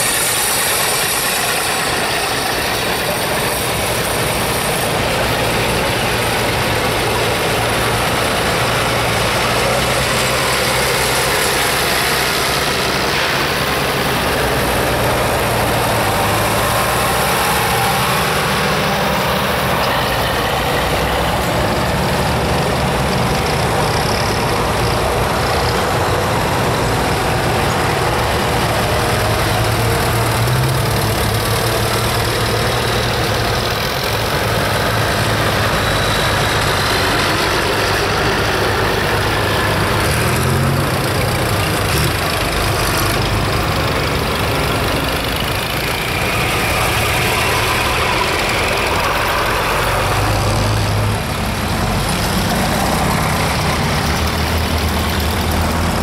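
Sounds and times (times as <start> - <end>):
tractor engines driving past: 0.0 - 56.0.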